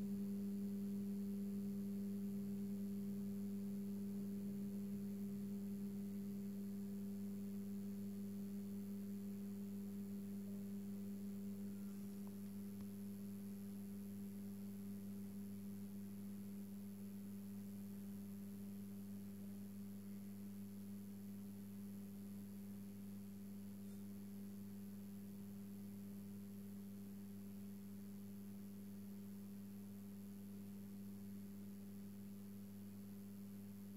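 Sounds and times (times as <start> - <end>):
lamp ballast electrical hum: 0.0 - 33.9.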